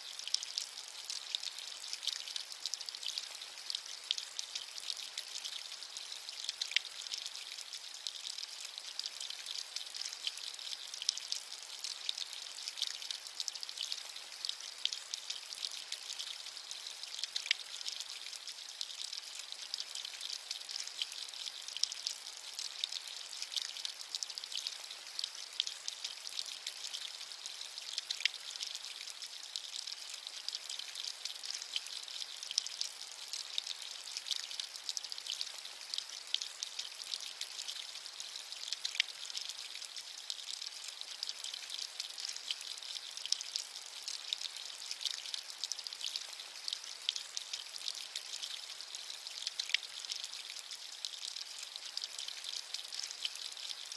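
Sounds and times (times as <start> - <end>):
steady rain pattering: 0.0 - 53.9.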